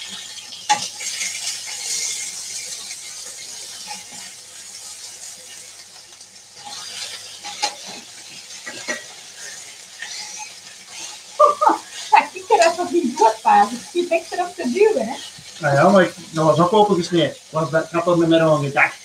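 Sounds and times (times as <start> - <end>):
food sizzling in a frying pan: 0.0 - 19.0
utensil stirring and scraping pan: 0.0 - 19.0.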